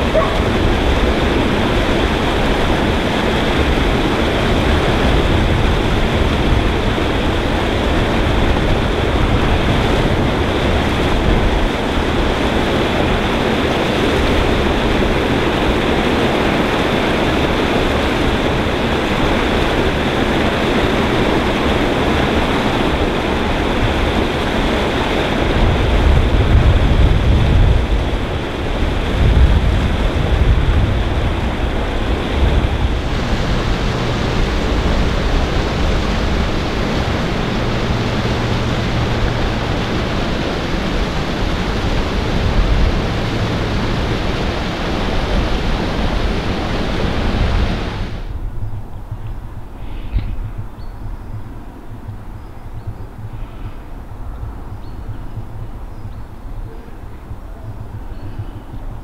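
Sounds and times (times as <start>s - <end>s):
deep water rumble: 0.0s - 59.0s
water rushing over a weir: 0.0s - 59.0s.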